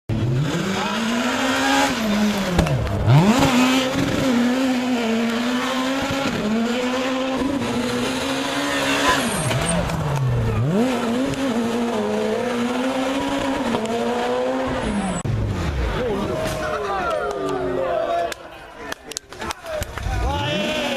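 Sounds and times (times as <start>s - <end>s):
rally car engine revving: 0.1s - 16.9s, 20.2s - 20.9s.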